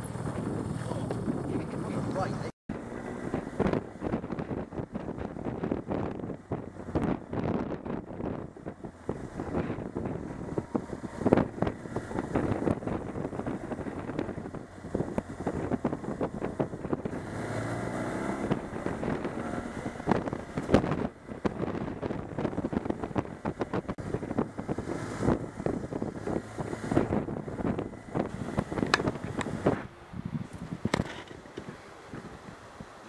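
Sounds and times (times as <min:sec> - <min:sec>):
motorcycle engine: 0:00.0 - 0:32.4
wind buffeting microphone: 0:00.0 - 0:33.0.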